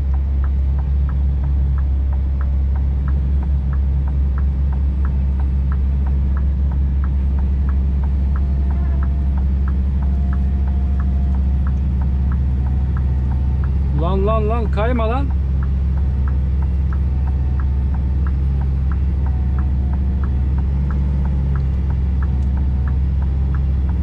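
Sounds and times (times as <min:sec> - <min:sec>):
truck engine running under load: 0:00.0 - 0:24.0
hazard-light relay ticking: 0:00.1 - 0:24.0.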